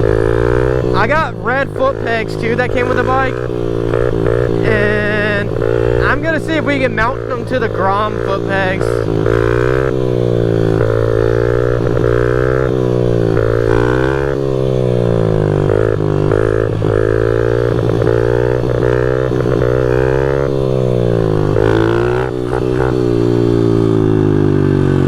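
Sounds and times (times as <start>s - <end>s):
small motorbike engine revving: 0.0s - 25.0s.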